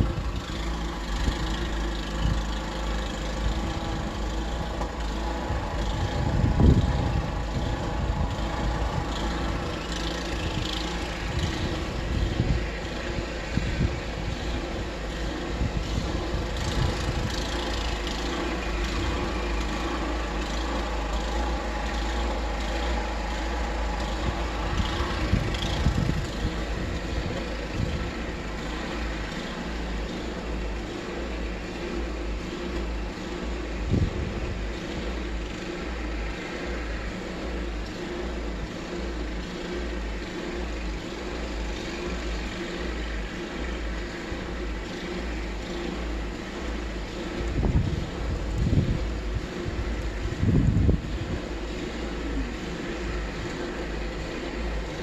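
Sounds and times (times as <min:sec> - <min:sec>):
engine rumbling: 0:00.0 - 0:55.0.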